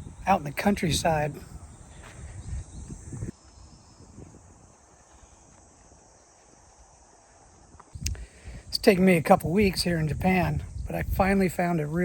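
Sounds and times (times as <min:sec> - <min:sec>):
faint countryside background: 0:00.0 - 0:12.0.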